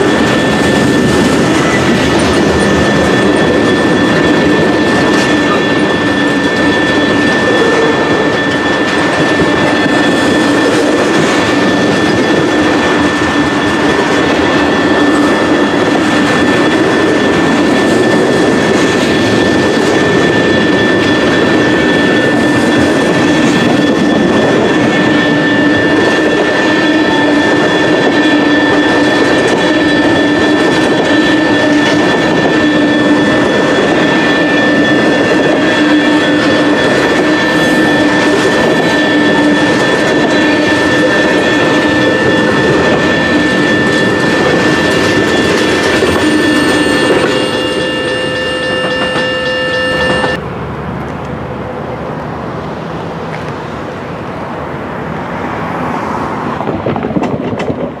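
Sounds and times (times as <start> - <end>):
steady high ringing tone: 0.0 - 50.4
freight train wheels rumbling: 0.0 - 58.0.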